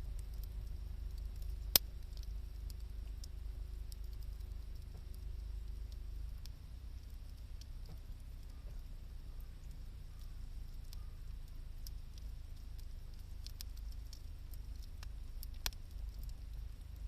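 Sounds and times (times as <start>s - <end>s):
campfire crackling and popping: 0.0s - 17.0s
low steady rumble: 0.0s - 17.0s.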